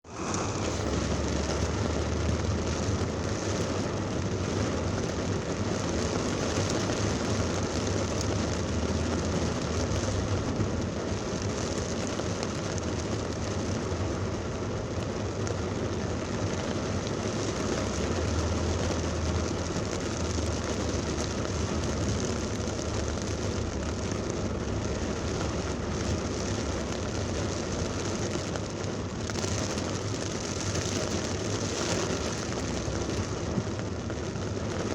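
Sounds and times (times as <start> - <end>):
heavy rain pouring: 0.0 - 34.9
road traffic rumble: 0.0 - 34.9.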